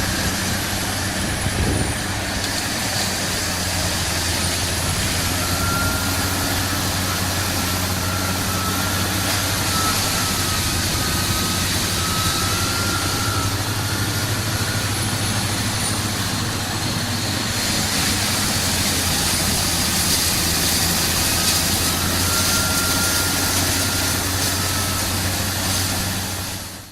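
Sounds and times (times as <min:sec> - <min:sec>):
high whine: 0:00.0 - 0:26.9
mulcher engine drone: 0:00.0 - 0:26.9.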